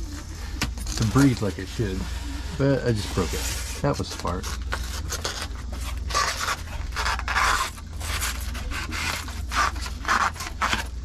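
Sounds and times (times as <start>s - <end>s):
styrofoam scraping against foil: 0.8s - 11.0s.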